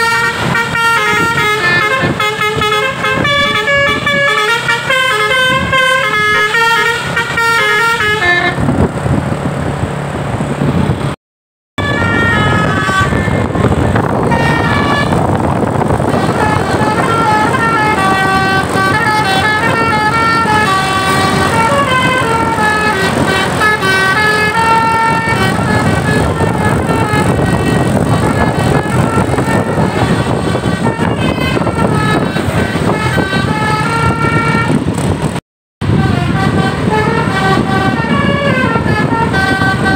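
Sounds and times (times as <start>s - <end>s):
multi-tone bus air horn melodies: 0.0s - 8.8s, 11.8s - 35.2s, 35.8s - 39.9s
bus engine and road noise: 0.0s - 11.2s, 11.8s - 39.9s.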